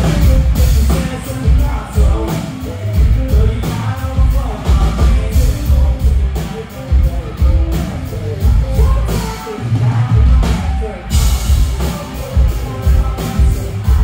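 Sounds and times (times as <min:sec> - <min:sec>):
country-pop band playing: 0:00.0 - 0:14.0
lead singer singing: 0:00.0 - 0:14.0
pulsing bass and drum beat: 0:00.0 - 0:14.0.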